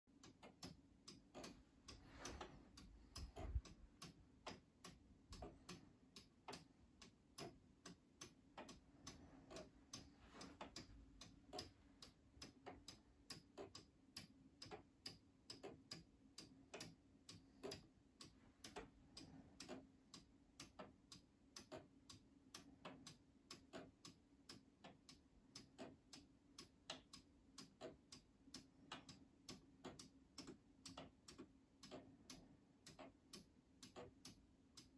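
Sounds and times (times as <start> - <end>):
clocks ticking: 0.1 - 34.9.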